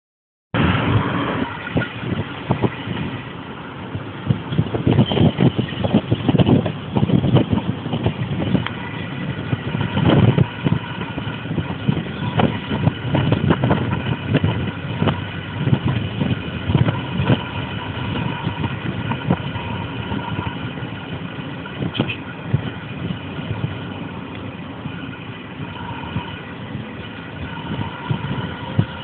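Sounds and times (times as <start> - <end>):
car engine and road noise: 0.5 - 29.0.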